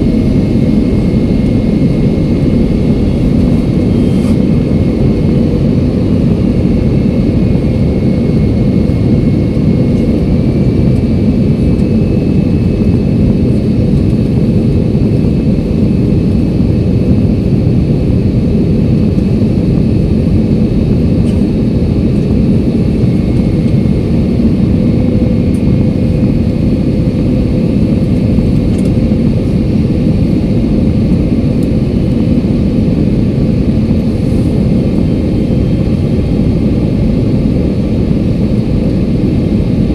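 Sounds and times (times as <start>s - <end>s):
faint steady whine: 0.0s - 39.9s
jet engine and airflow rush: 0.0s - 39.9s.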